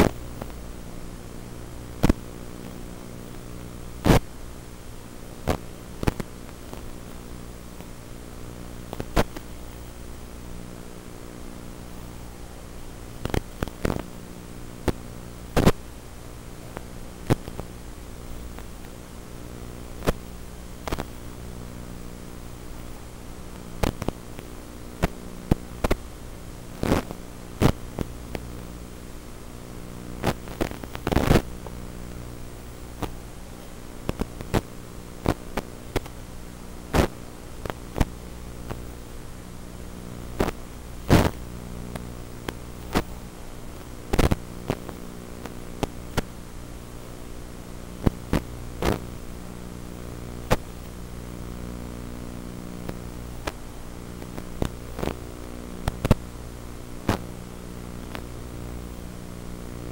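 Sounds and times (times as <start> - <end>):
crackling interference pops: 0.0 - 59.9
electrical buzz and hiss: 0.0 - 59.9.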